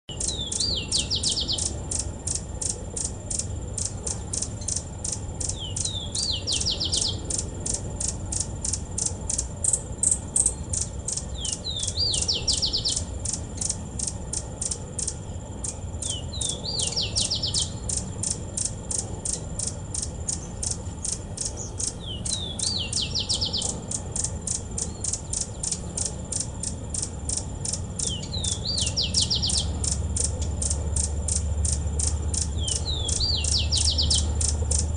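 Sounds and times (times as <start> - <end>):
bird trilling: 0.1 - 34.9
crickets chirping: 0.1 - 34.9.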